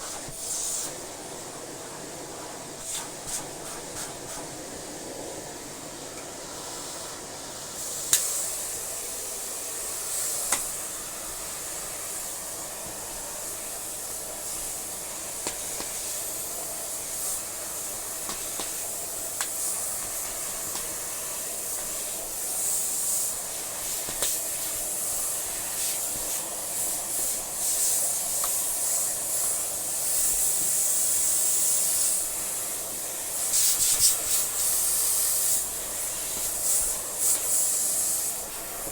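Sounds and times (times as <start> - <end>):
vacuum cleaner suction hiss: 0.0 - 38.9.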